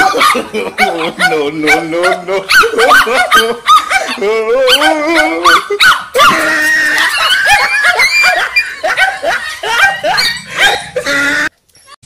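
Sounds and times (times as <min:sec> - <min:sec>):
person laughing: 0:00.0 - 0:11.5
small dogs barking and yapping: 0:00.0 - 0:12.0.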